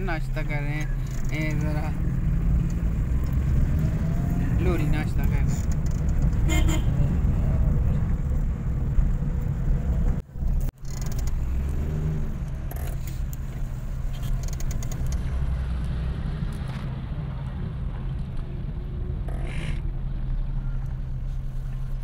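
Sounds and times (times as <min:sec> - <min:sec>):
car driving rumble from inside: 0:00.0 - 0:22.0.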